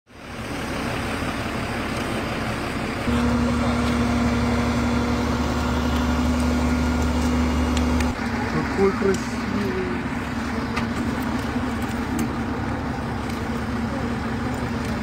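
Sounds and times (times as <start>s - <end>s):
fire truck engine running: 0.1s - 15.0s.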